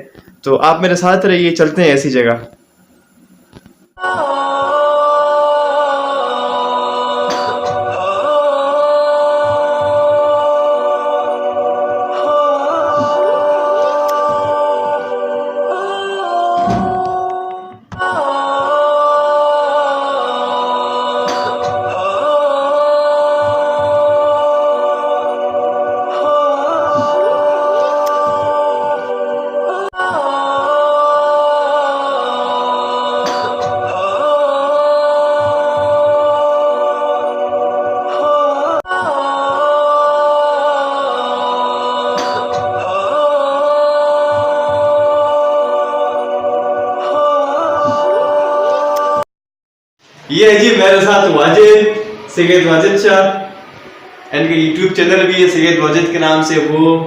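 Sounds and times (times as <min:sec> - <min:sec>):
wordless vocal music: 0:00.0 - 0:49.3, 0:50.0 - 0:57.0
choir-like sung notes: 0:03.9 - 0:49.3, 0:50.0 - 0:57.0.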